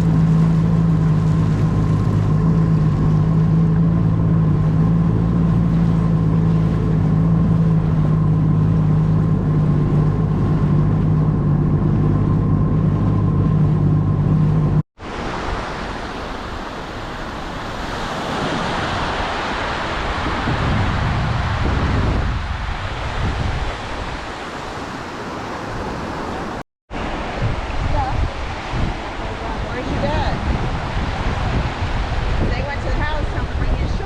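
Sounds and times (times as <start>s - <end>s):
jet ski engine running: 0.0s - 14.8s, 20.3s - 34.0s
wind and surf rushing: 0.0s - 34.0s.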